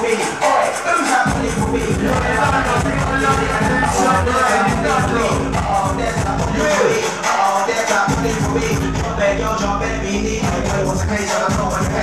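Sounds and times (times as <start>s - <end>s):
dance music over sound system: 0.0s - 12.0s.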